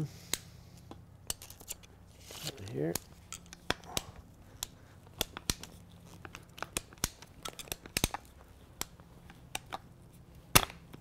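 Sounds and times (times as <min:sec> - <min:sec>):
pipe cutter clicking and cracking: 0:00.3 - 0:09.8.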